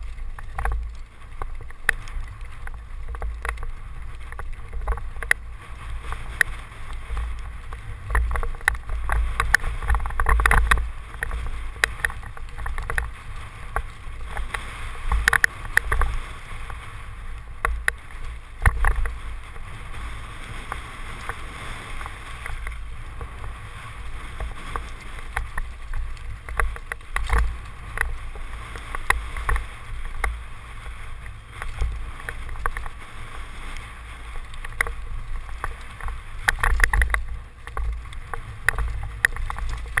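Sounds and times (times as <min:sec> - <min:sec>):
bike rattling over stones: 0:00.0 - 0:40.0
wind rumble on microphone: 0:00.0 - 0:40.0.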